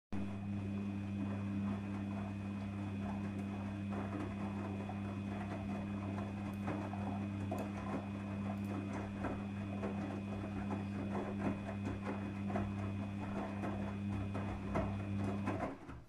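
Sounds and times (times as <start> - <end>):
washing machine water sloshing: 0.2 - 16.0.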